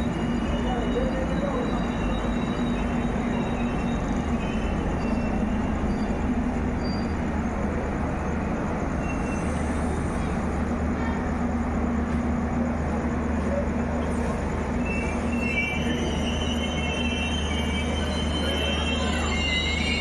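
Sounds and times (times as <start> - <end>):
faint high squeals: 0.0 - 11.6, 12.2 - 20.0
train wheels rumbling on rail: 0.0 - 20.0.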